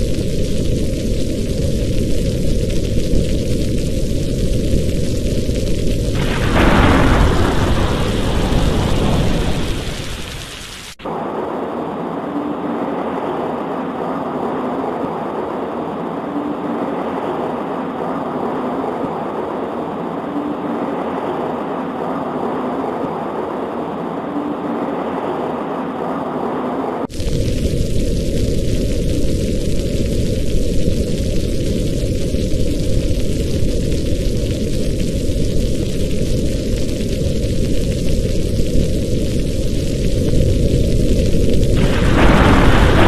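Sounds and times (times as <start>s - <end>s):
muffled rain: 0.0s - 43.0s
thunder rumbling: 0.0s - 43.0s.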